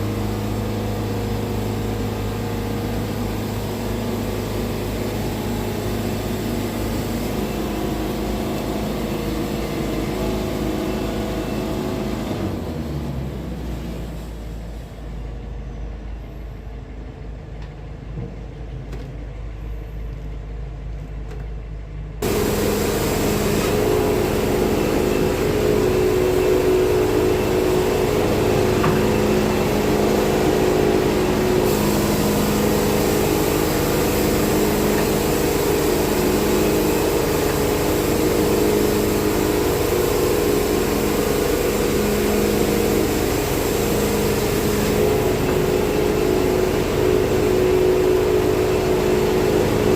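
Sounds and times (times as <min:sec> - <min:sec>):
sawmill droning loudly: 0:00.0 - 0:15.2, 0:22.2 - 0:49.9.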